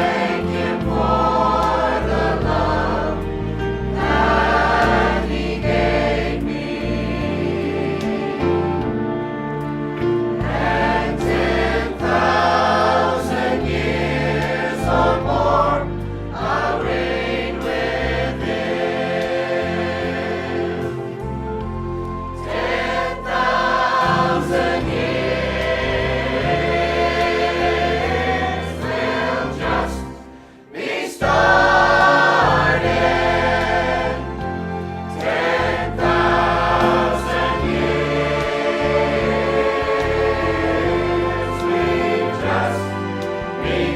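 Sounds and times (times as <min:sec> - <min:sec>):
church choir singing a hymn: 0:00.0 - 0:43.9
instrumental accompaniment: 0:00.0 - 0:43.9.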